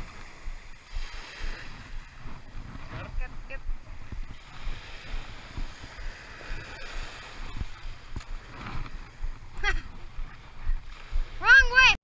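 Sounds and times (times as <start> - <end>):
waves washing over sandy beach: 0.0 - 12.0
wind buffeting microphone: 0.0 - 12.0.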